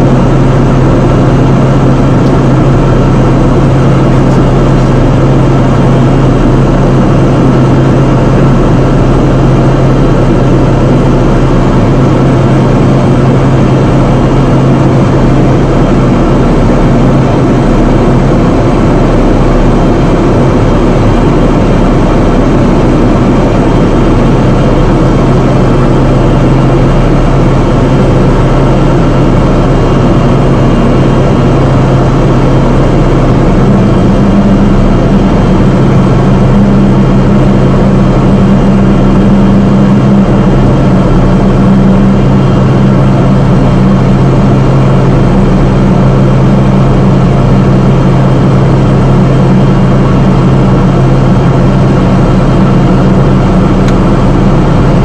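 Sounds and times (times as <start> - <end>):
higher hum: 0.0 - 55.0
propeller airplane engine droning: 0.0 - 55.0.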